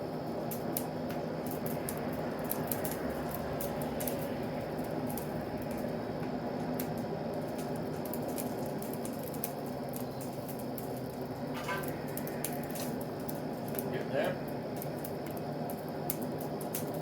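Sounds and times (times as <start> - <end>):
coals crackling: 0.0 - 17.0
forge fire rushing: 0.0 - 17.0.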